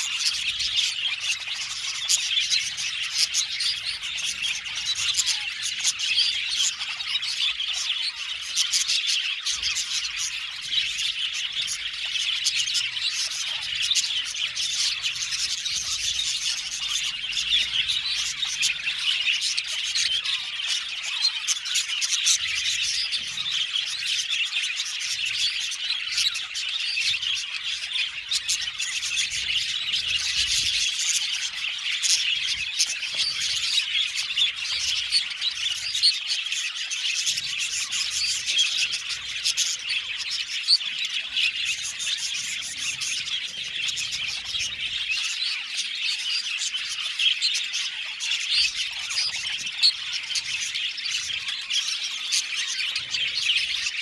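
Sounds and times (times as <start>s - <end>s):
budgerigars chattering and chirping: 0.0s - 54.0s.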